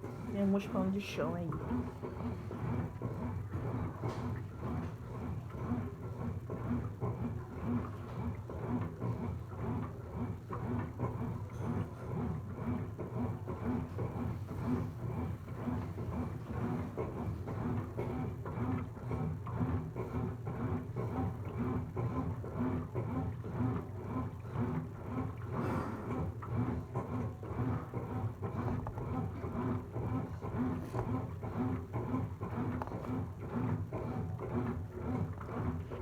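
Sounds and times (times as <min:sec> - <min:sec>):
washing machine humming: 0:00.0 - 0:36.0.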